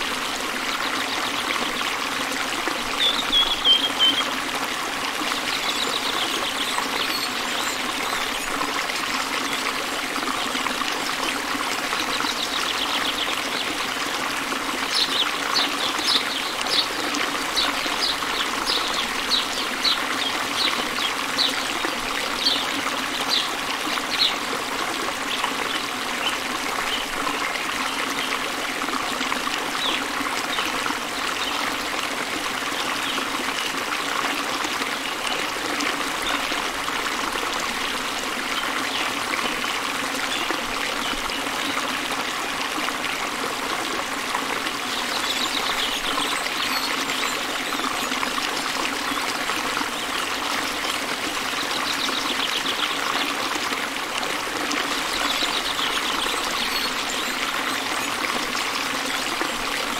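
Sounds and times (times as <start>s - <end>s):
trickling stream: 0.0s - 59.9s.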